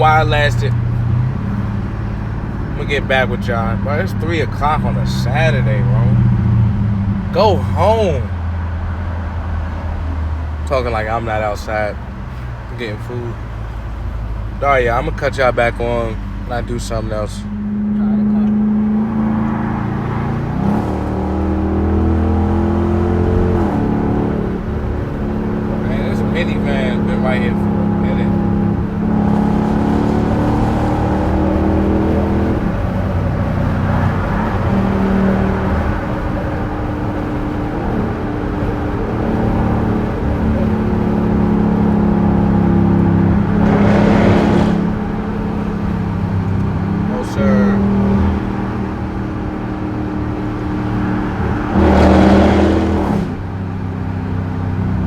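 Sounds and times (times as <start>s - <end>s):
car exhaust droning: 0.0s - 55.0s.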